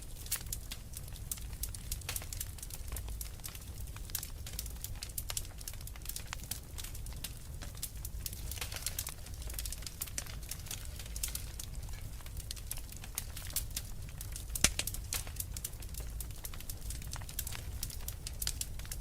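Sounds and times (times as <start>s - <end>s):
loud fire snap: 0.0s - 19.0s
wood fire crackling: 0.0s - 19.0s.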